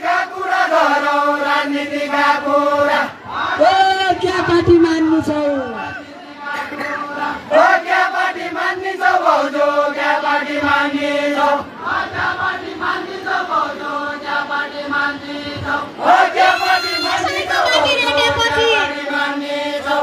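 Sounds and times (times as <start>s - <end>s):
men singing together: 0.0s - 3.6s, 5.9s - 17.7s, 18.7s - 20.0s.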